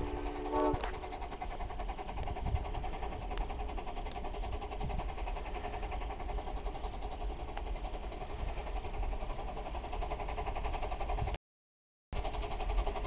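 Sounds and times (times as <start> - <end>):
steam locomotive exhaust beating: 0.0 - 11.4, 12.2 - 13.0.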